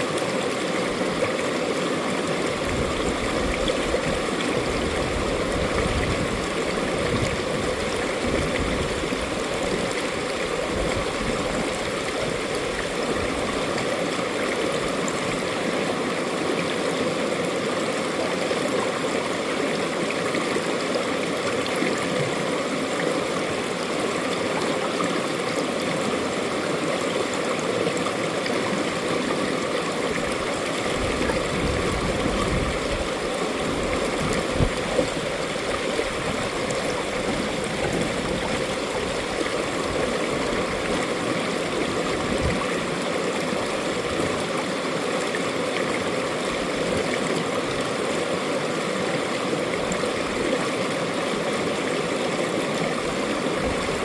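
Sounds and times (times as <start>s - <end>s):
stream water running over rocks: 0.0s - 54.0s.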